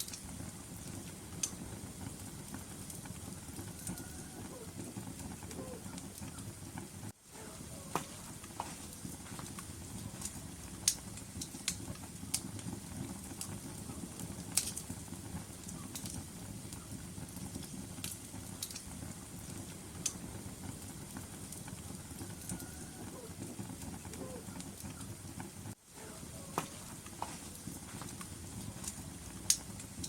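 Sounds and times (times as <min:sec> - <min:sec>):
fire crackling and popping: 0:00.0 - 0:30.0
log fire rumbling: 0:00.0 - 0:30.0.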